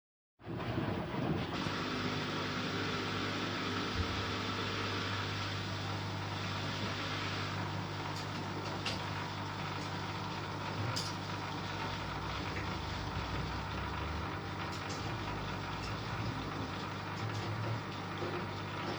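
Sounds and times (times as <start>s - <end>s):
washing machine motor hum: 0.4s - 18.9s.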